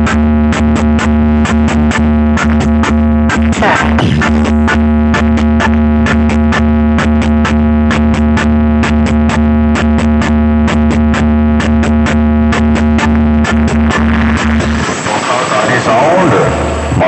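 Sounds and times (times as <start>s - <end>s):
loud electronic dance music: 0.0s - 17.0s.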